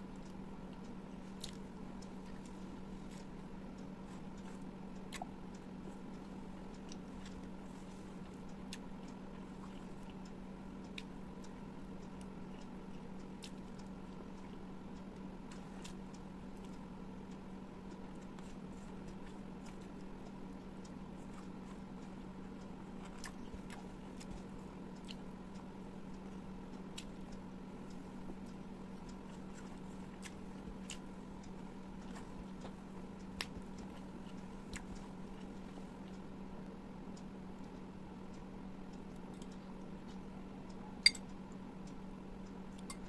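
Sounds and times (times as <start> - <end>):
steady low hum: 0.0 - 43.0
chewing and biting food: 0.1 - 36.2.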